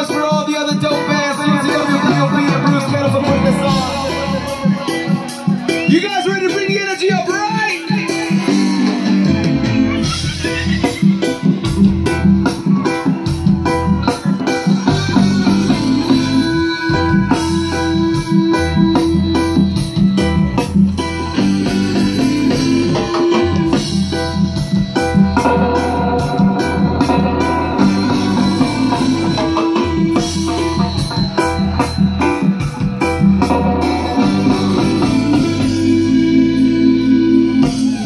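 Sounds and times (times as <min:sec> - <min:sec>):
live band playing: 0:00.0 - 0:38.0.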